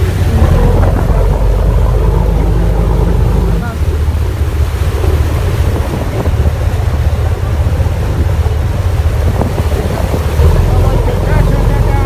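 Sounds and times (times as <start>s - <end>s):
boat rumbling through water: 0.0s - 12.0s
wind buffeting microphone: 0.0s - 12.0s.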